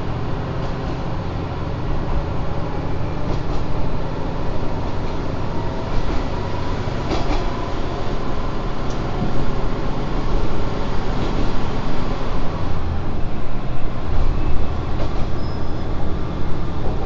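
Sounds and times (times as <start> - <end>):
diesel railcar engine rumble: 0.0 - 17.0.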